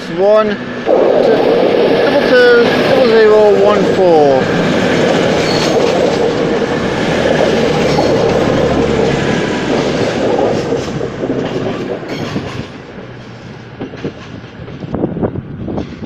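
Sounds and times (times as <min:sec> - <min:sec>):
train diesel engines running: 0:00.0 - 0:16.0
train wheels clattering on rails: 0:00.8 - 0:16.0.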